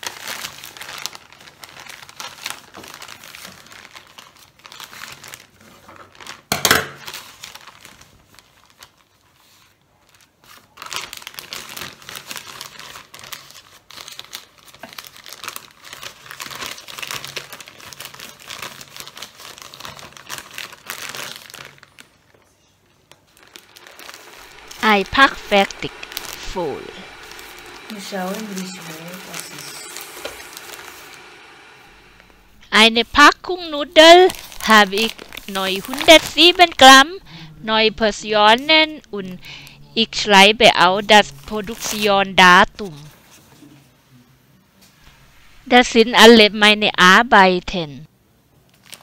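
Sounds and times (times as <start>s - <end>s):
plastic bag crinkling: 0.0s - 22.5s, 23.1s - 39.8s, 48.7s - 49.0s.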